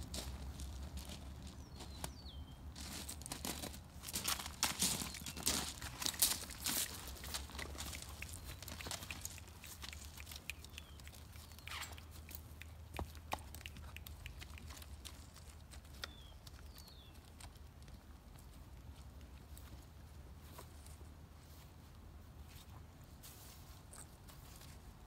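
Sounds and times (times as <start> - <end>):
horse hooves on ground: 0.0 - 21.8.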